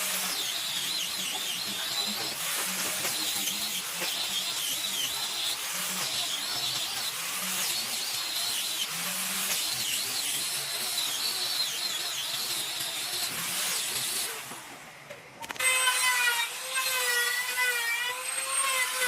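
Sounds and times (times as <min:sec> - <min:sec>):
power tool whining on wood: 0:00.0 - 0:14.8, 0:15.4 - 0:19.0.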